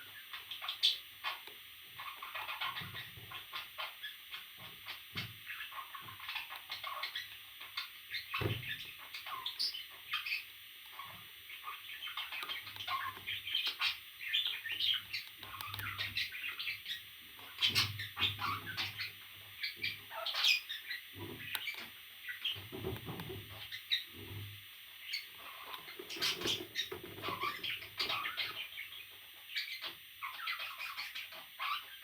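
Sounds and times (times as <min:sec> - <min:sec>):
parrot chirping and chattering: 0:00.0 - 0:32.0.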